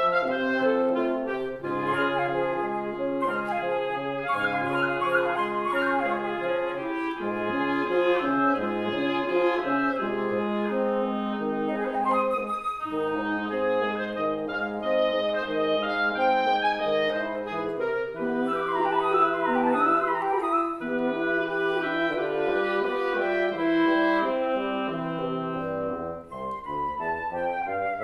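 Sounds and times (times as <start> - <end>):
woodwind quintet playing classical music: 0.0 - 28.0.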